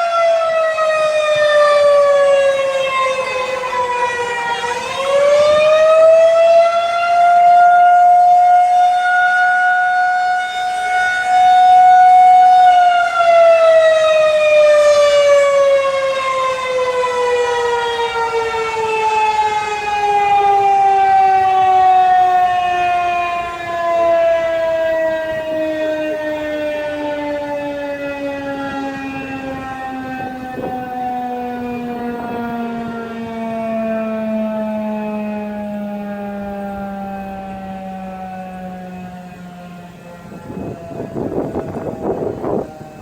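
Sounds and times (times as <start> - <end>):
tornado siren winding: 0.0 - 43.0.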